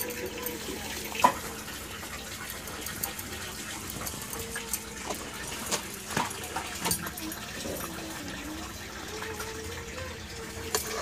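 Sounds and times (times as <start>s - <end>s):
curry bubbling at a boil: 0.0s - 11.0s.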